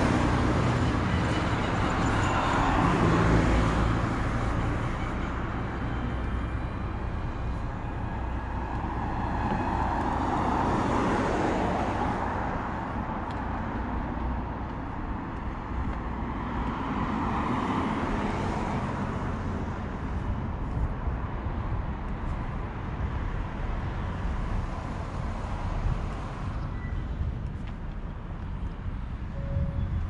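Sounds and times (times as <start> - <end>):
cars passing on a street: 0.0 - 30.0.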